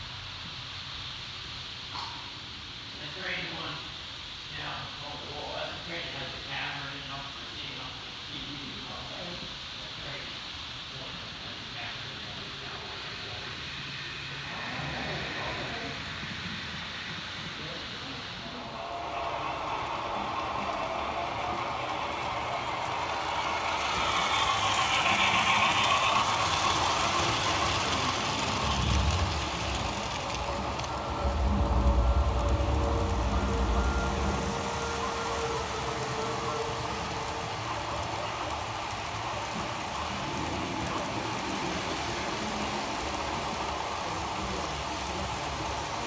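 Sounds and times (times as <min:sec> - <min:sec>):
model train wheels on track: 0:00.0 - 0:46.0.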